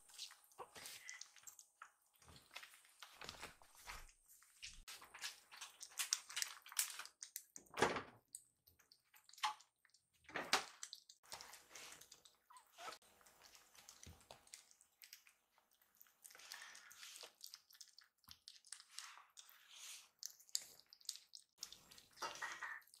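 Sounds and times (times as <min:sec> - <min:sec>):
kittens eating and lapping: 0:00.0 - 0:23.0.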